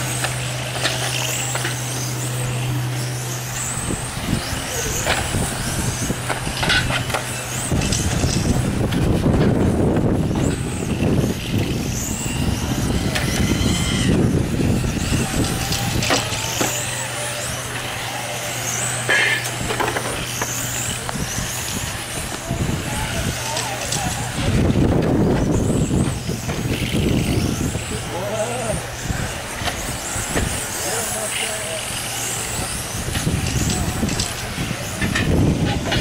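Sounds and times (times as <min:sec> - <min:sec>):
electric motors whining: 0:00.0 - 0:36.0
steady low hum: 0:00.0 - 0:36.0.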